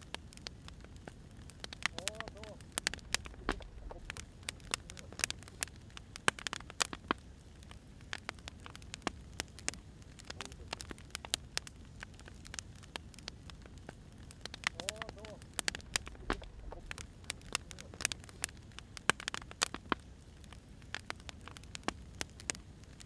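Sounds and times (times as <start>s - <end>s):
low rumble of burning logs: 0.0s - 23.0s
wood fire crackling and popping: 0.0s - 23.0s.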